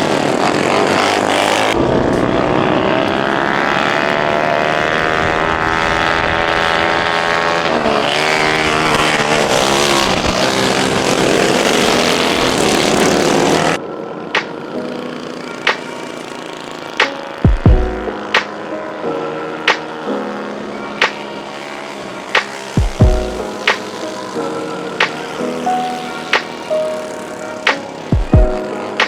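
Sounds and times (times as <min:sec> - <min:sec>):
lawn mower engines racing: 0:00.0 - 0:17.5, 0:18.1 - 0:29.0.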